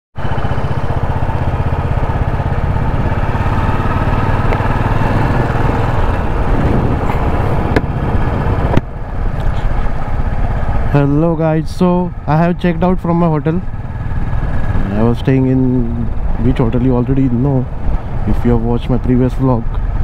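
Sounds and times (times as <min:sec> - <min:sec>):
motorcycle engine running: 0:00.2 - 0:20.0.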